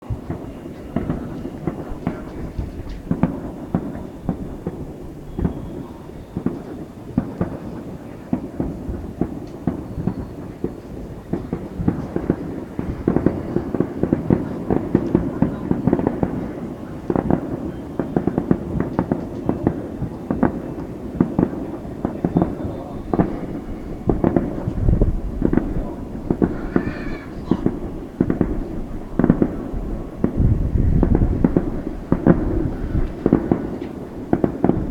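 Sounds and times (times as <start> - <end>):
fireworks bangs and pops: 0.0 - 34.9.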